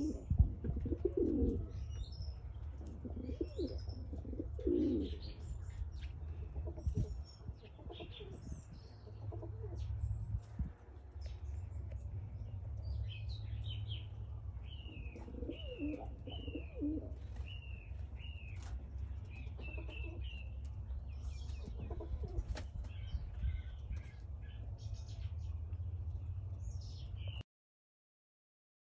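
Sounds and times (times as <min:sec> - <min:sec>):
pigeons cooing: 0:00.0 - 0:24.7
steady low rumble: 0:00.0 - 0:27.4.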